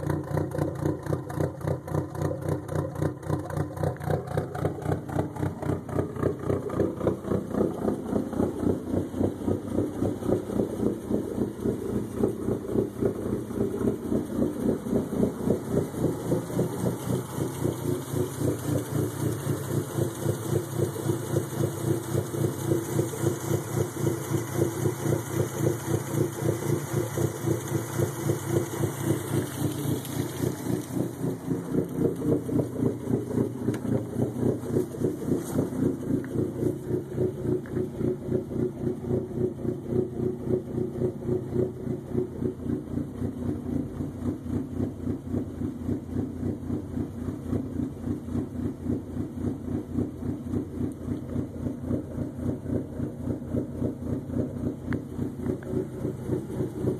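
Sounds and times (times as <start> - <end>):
car engine idling choppily: 0.0 - 56.9.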